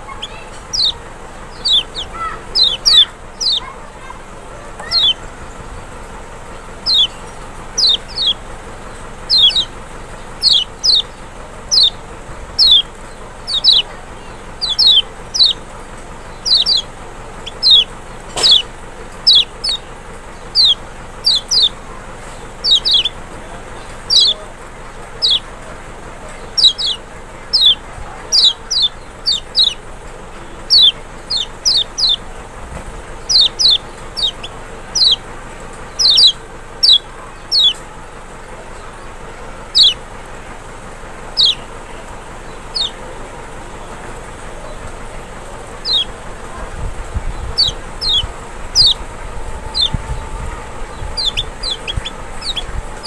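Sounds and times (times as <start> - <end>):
bird calling high sliding notes: 0.0 - 53.0.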